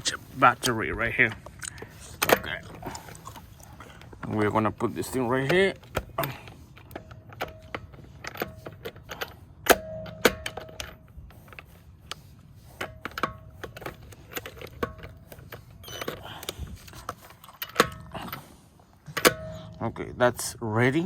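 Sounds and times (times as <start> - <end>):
metal clinks and clanks: 2.1 - 12.0, 12.6 - 19.9.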